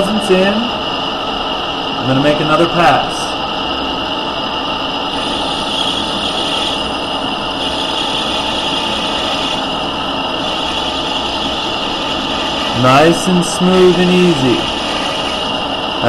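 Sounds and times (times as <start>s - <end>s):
lathe running with high whine: 0.0s - 16.0s.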